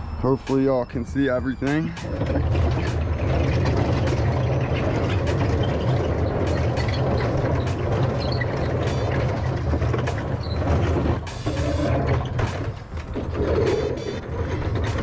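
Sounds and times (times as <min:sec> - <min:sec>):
road noise: 0:00.0 - 0:15.0
truck engine rumble: 0:00.0 - 0:15.0.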